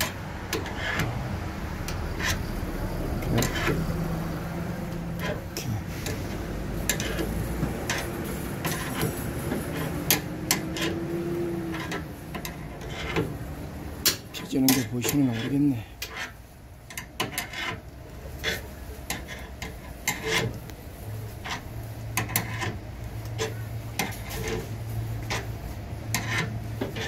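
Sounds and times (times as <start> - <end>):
low workshop rumble: 0.0 - 27.0.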